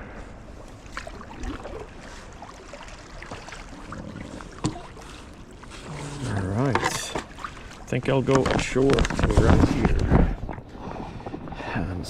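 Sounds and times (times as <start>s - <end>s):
paddle strokes splashing: 0.4s - 11.6s.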